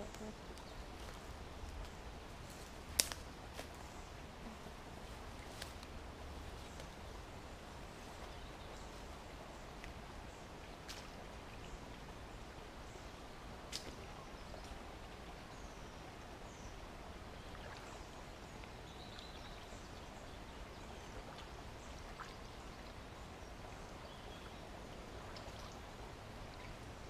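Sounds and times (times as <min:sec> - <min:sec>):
water of a brook: 0:00.0 - 0:27.0.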